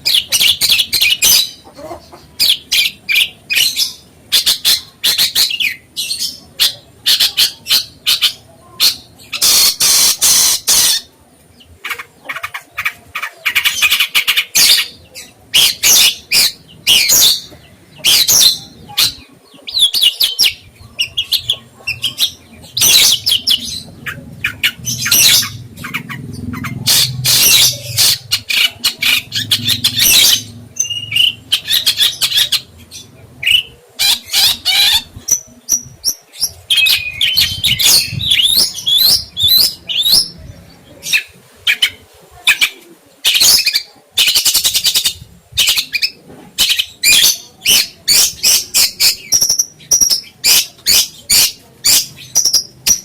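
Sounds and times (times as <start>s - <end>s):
songbird chirping and trilling: 0.0s - 53.0s.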